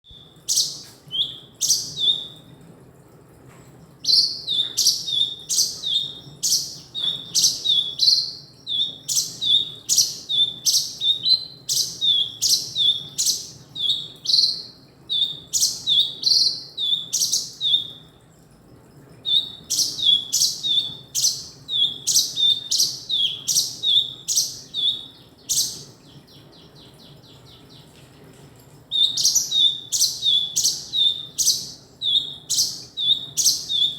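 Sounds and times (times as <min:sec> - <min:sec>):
bird chirping: 0:00.0 - 0:02.5, 0:04.0 - 0:18.5, 0:19.1 - 0:33.9
faint rapid bird trill: 0:00.0 - 0:33.9.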